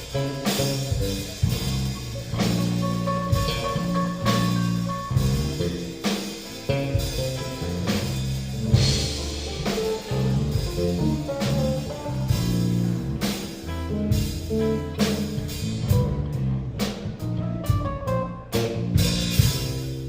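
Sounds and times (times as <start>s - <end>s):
drum kit hits: 0.0s - 20.0s
low guitar notes: 0.0s - 20.0s.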